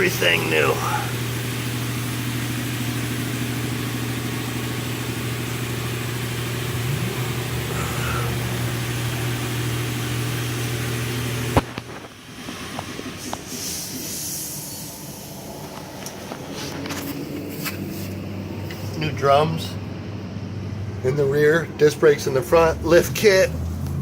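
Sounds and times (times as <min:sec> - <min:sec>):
low mechanical hum with hiss: 0:00.0 - 0:24.0.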